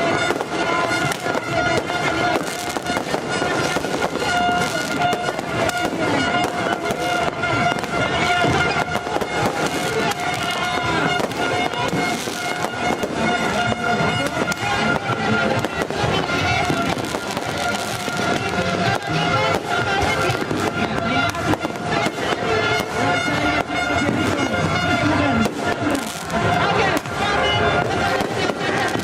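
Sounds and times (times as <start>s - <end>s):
fireworks bangs and crackles: 0.0s - 29.0s
music with long held tones: 0.0s - 29.0s.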